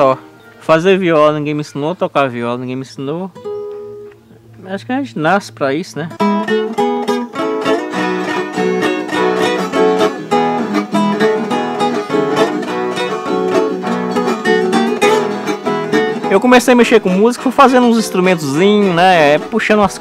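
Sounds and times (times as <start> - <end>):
plucked guitar notes: 0.0 - 20.0.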